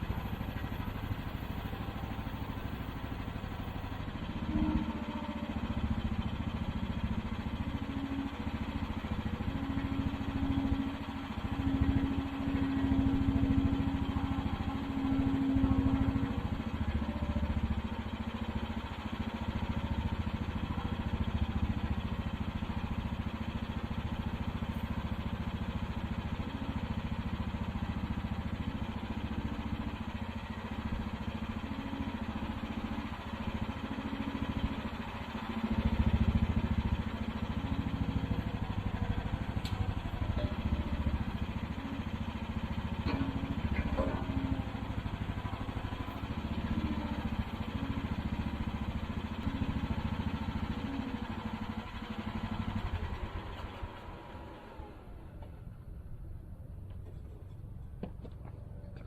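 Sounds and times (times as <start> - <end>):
mini excavator engine running: 0.0 - 59.0.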